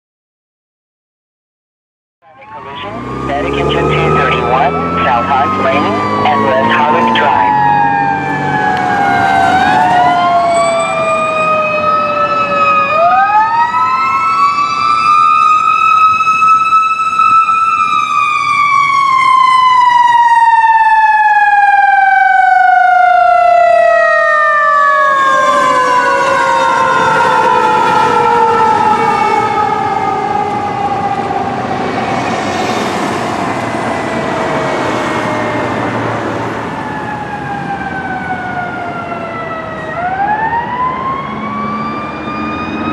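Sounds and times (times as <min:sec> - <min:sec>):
fire engine siren wailing: 0:02.2 - 0:42.9.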